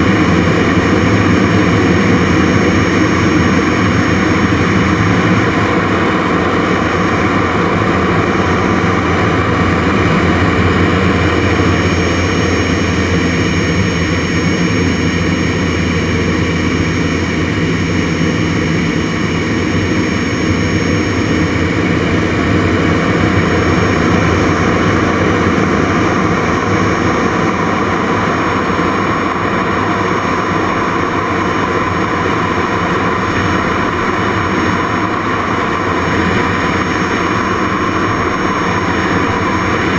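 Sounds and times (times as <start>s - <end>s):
jet engine running: 0.0s - 39.9s
thin high whine: 0.0s - 39.9s.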